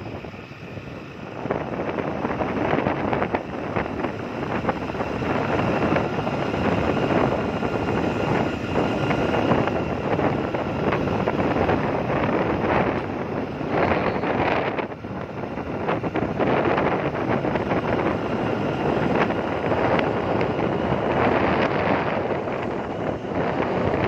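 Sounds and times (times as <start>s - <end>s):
vehicle road and engine noise: 0.0s - 24.0s
wind rushing over microphone: 0.0s - 24.0s.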